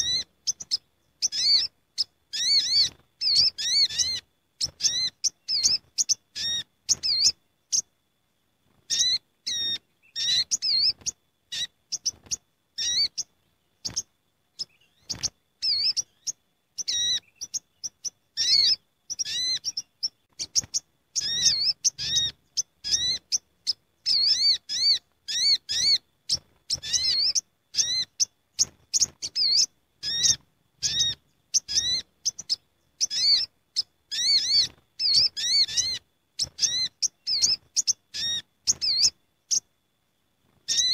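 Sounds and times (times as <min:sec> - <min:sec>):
sunbirds chirping: 0:00.0 - 0:40.9.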